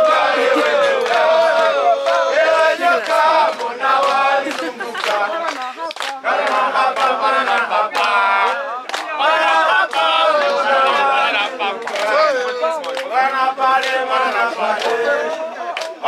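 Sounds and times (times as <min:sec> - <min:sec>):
men singing and chanting: 0:00.0 - 0:16.0.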